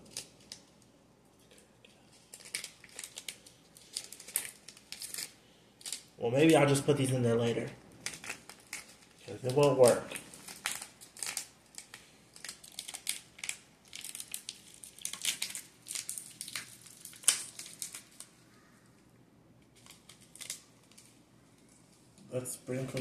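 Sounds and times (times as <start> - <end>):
plastic bag crinkling: 2.0 - 18.8, 19.7 - 23.0.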